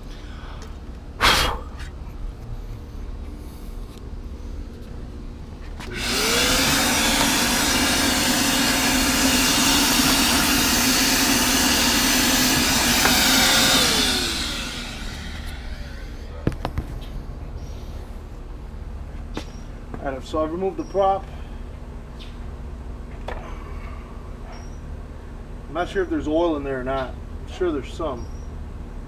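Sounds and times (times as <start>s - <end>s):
electric fan whirring: 0.0s - 29.0s.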